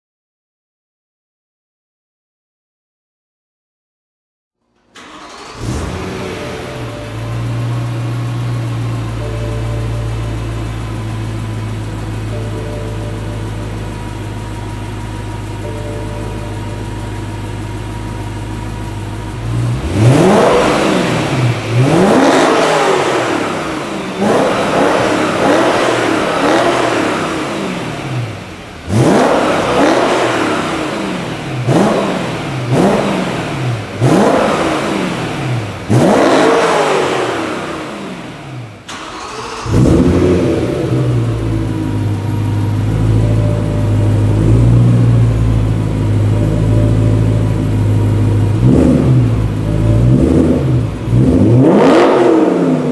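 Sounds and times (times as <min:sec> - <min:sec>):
car engine revving: 0:04.9 - 0:52.9
deep car engine idling: 0:05.1 - 0:36.0, 0:38.2 - 0:52.9.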